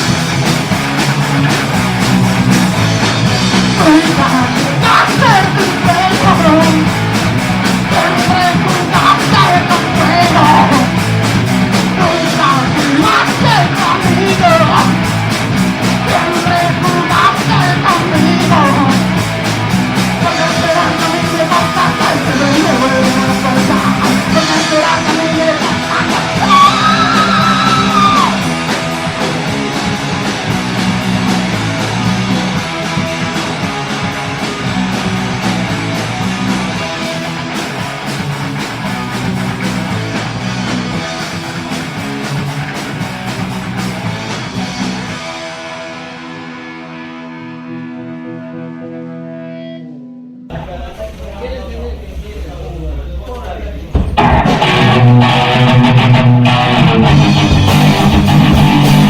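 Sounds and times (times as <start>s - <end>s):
drum beat: 0.0s - 45.0s, 50.5s - 59.0s
electric guitars: 0.0s - 59.0s.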